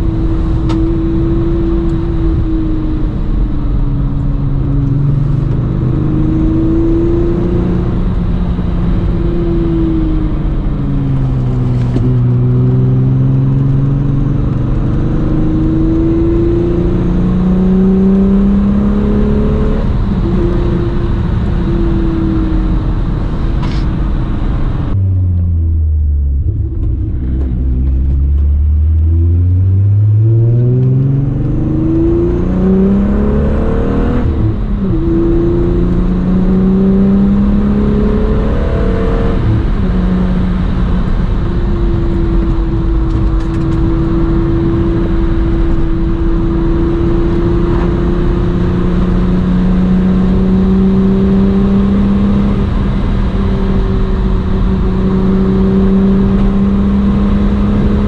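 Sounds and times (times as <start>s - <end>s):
car engine revving through gears: 0.0s - 25.8s, 26.4s - 58.0s.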